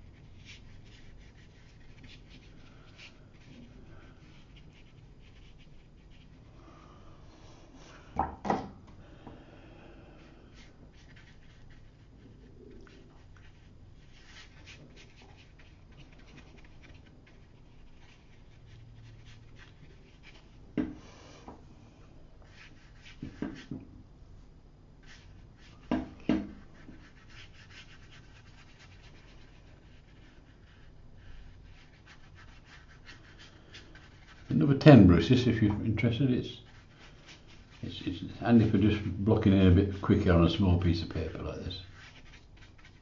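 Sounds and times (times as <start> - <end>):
brush stroking on paper: 0.0 - 6.8, 9.8 - 23.8, 24.4 - 43.0.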